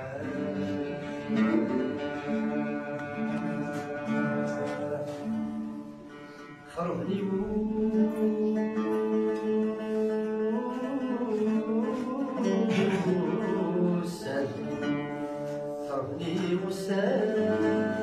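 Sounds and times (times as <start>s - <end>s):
song with plucked strings: 0.0s - 18.0s.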